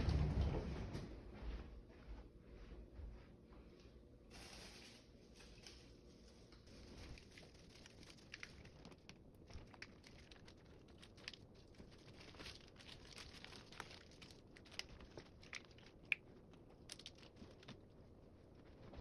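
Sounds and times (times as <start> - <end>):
faint crinkling: 1.5 - 19.0.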